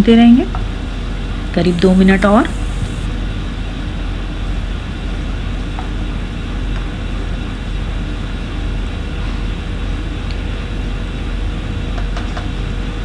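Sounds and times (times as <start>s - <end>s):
continuous low hum: 0.0s - 13.0s.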